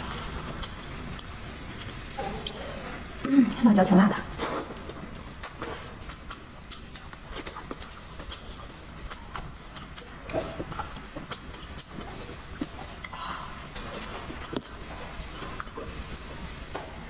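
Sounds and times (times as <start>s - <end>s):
close chewing and mouth smacks: 0.0s - 3.7s, 4.3s - 17.0s.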